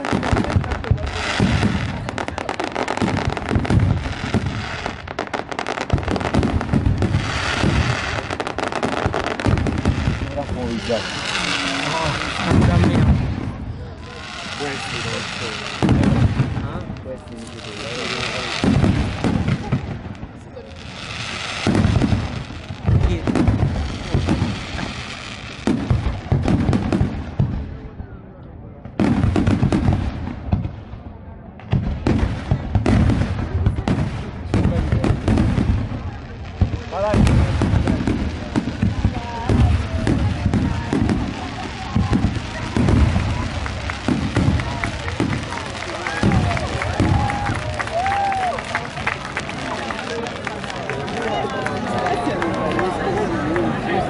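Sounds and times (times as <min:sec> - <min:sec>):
fireworks and firecrackers bangs: 0:00.0 - 0:54.0.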